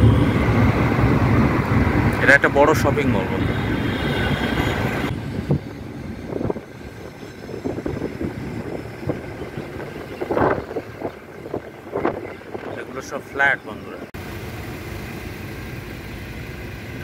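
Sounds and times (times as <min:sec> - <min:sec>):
wind on microphone: 0:00.0 - 0:14.1
road rumble from moving car: 0:00.0 - 0:17.0.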